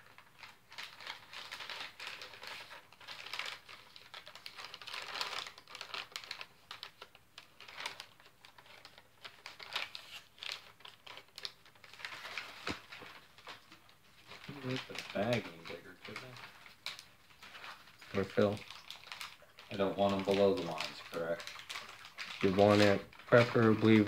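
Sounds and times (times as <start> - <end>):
plastic packaging crinkling: 0.0 - 24.0.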